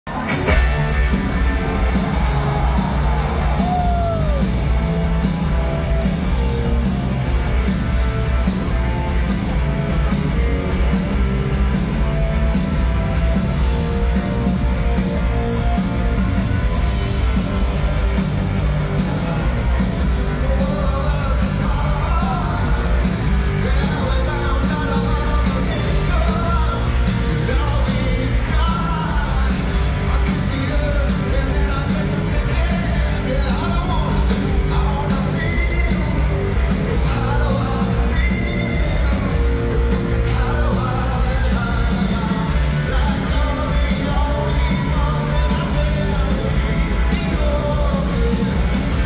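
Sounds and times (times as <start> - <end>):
live rock band: 0.1 - 49.0.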